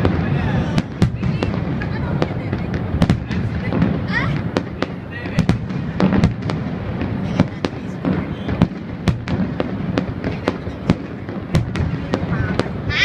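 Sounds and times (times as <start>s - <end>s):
fireworks bangs: 0.0s - 13.0s
low fireworks rumble: 0.0s - 13.0s.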